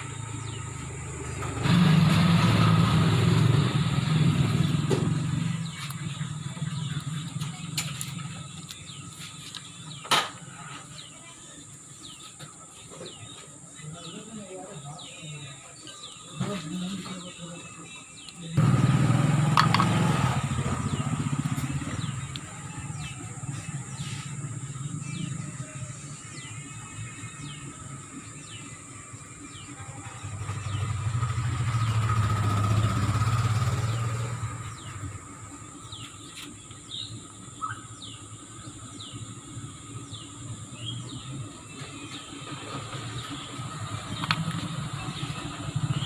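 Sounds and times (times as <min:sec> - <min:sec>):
vehicles passing: 0:00.0 - 0:11.1, 0:15.8 - 0:46.0
birds chirping: 0:00.0 - 0:46.0.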